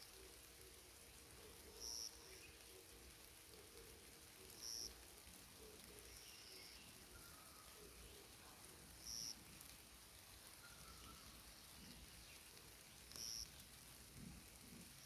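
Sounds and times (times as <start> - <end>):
faint forest ambience hiss: 0.0 - 15.0.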